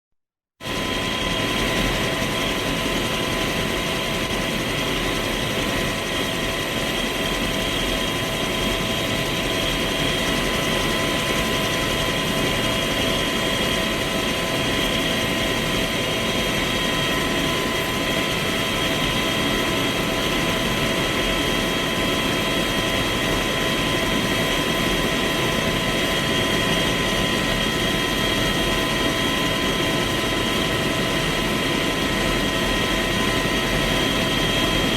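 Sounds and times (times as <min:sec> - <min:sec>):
helicopter engine and rotor idling: 0:00.6 - 0:34.9.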